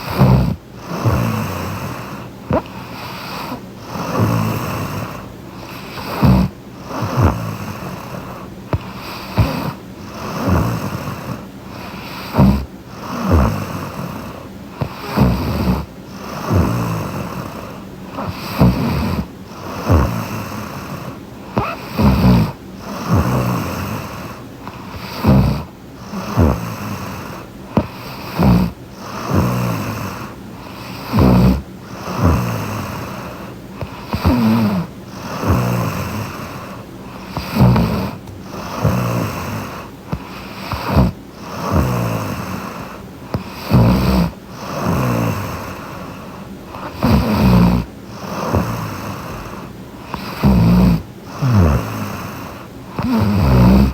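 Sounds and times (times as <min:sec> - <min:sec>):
breathing: 0:00.0 - 0:53.9
woman snoring: 0:00.0 - 0:53.9.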